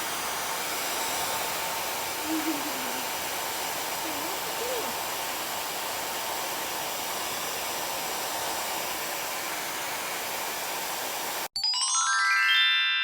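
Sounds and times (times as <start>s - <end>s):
hair dryer blowing: 0.0s - 11.5s.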